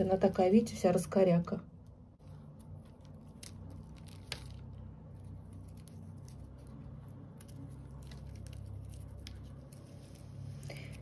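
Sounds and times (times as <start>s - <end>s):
low steady hum: 0.0s - 11.0s
fingers rustling orchid roots: 2.2s - 11.0s.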